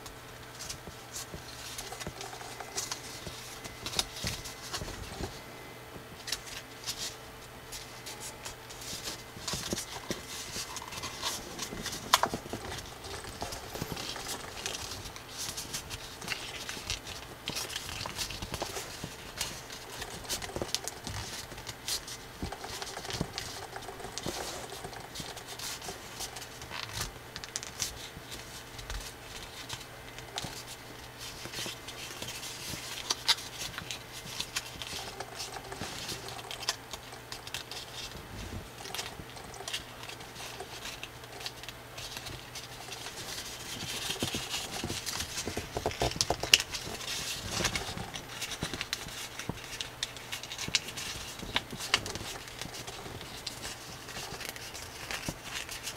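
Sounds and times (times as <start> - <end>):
paper rustling and crinkling: 0.0 - 55.9.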